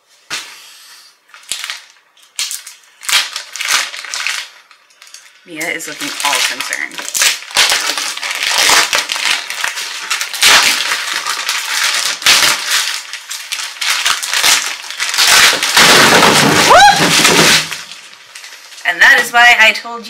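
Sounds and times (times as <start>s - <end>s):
plastic wrapping crinkling and tearing: 1.3s - 19.6s.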